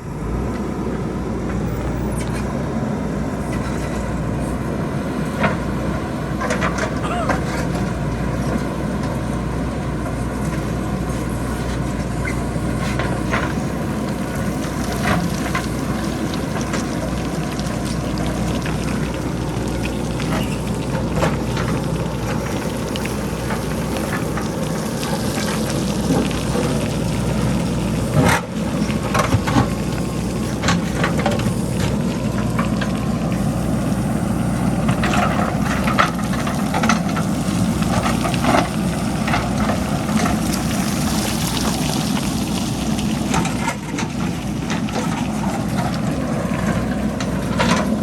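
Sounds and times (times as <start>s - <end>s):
diesel engine running: 0.0s - 48.0s
rocks clattering down slope: 5.0s - 48.0s.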